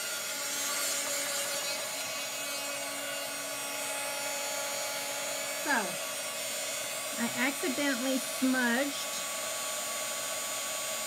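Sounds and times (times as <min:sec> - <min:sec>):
heat gun blowing air: 0:00.0 - 0:11.0
motor hum: 0:00.0 - 0:11.0.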